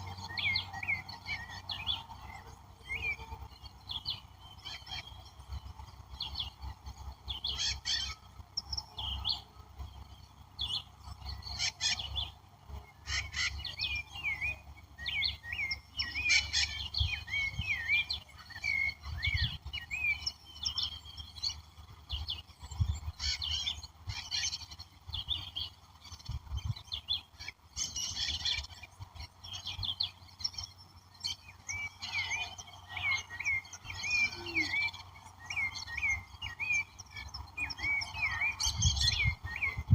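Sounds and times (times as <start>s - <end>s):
wild birds calling and singing: 0.0s - 39.9s.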